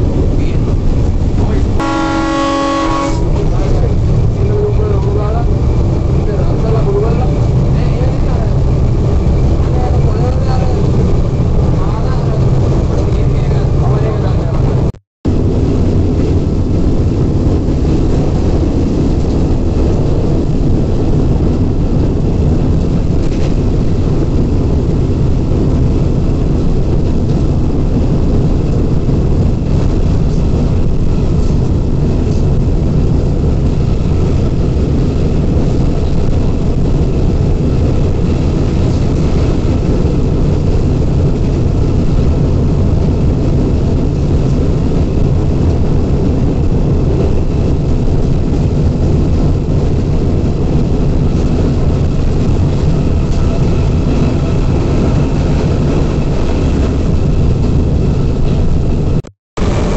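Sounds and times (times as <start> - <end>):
locomotive engine drone: 0.0 - 59.9
rush of moving train: 0.0 - 59.9.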